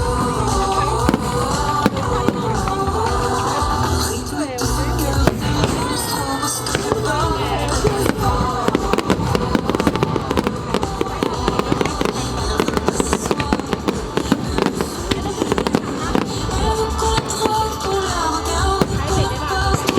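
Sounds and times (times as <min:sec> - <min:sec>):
fireworks popping and crackling: 0:00.0 - 0:19.9
music: 0:00.0 - 0:19.9.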